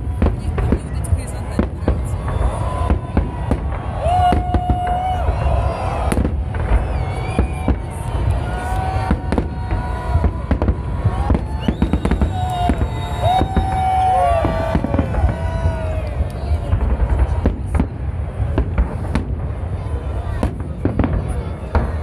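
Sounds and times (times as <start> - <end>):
high whistling fireworks: 0.0 - 22.0.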